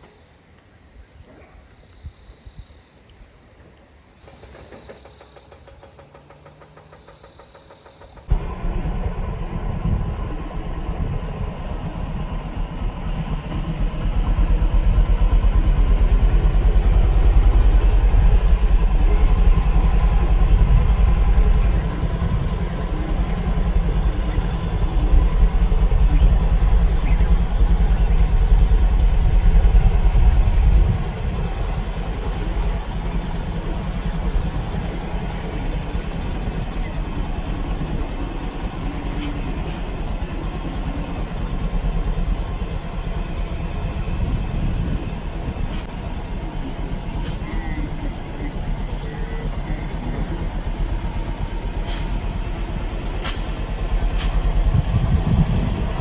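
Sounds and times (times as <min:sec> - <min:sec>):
engine rumbling: 0:00.0 - 0:56.0.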